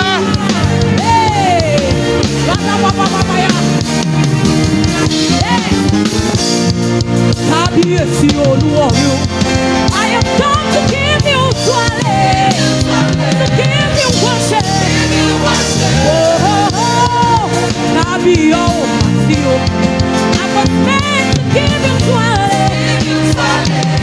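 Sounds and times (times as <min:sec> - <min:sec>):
sliding lead melody: 0:00.0 - 0:24.0
worship band playing: 0:00.0 - 0:24.0.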